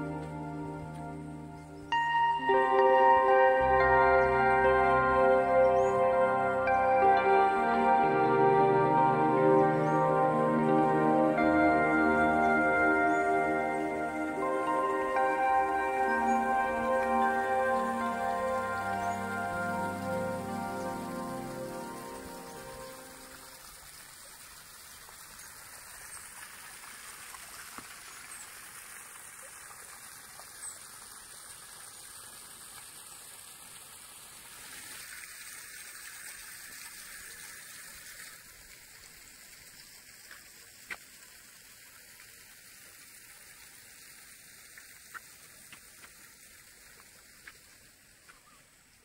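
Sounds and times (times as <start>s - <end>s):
water gushing into pond: 0.0s - 49.0s.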